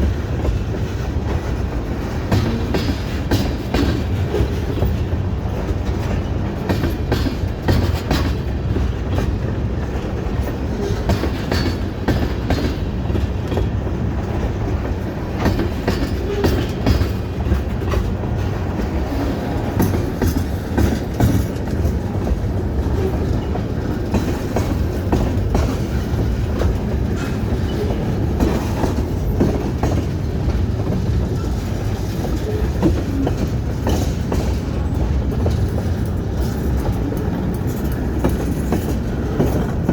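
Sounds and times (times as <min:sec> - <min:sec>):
train cars rumbling past: 0:00.0 - 0:39.9
wheels clacking over rail joints: 0:00.0 - 0:39.9.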